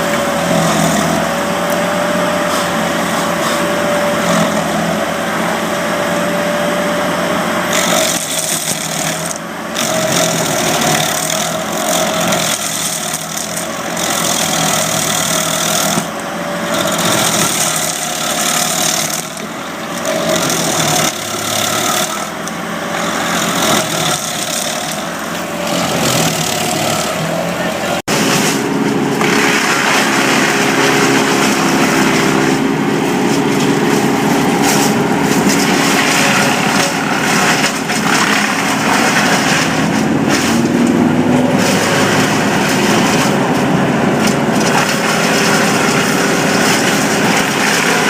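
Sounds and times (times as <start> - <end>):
chainsaw cutting wood: 0.0 - 5.0, 7.3 - 43.6, 44.2 - 48.0.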